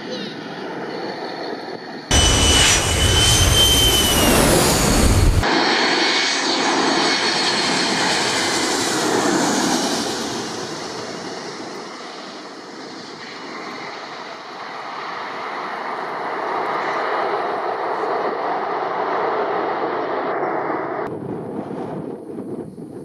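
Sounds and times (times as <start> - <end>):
jet airliner passing overhead: 0.0 - 23.0
steady jet noise: 2.1 - 22.2.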